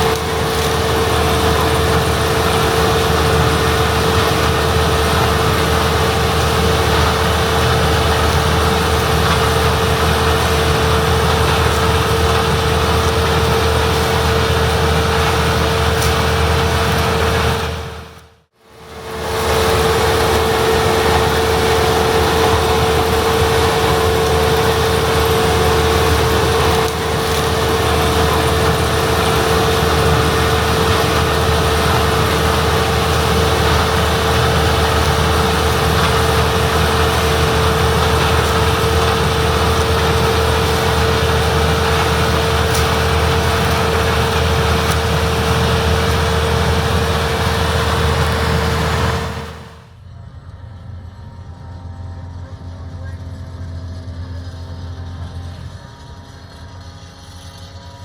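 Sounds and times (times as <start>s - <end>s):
high machine whine: 0.0s - 58.0s
low diesel engine drone: 0.0s - 58.0s.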